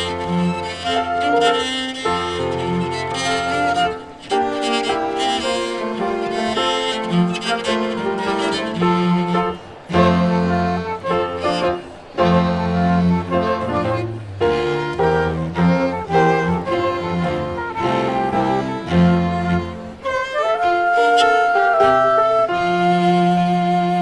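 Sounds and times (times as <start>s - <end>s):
bowed violin and cello: 0.0s - 24.0s
chamber ensemble playing: 0.0s - 24.0s.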